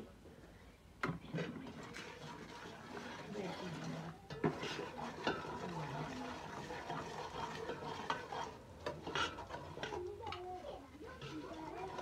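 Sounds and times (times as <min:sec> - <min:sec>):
utensil clinking against pot: 0:01.0 - 0:12.0
utensil stirring and scraping pot: 0:01.0 - 0:12.0
faint frying sizzle: 0:01.8 - 0:12.0.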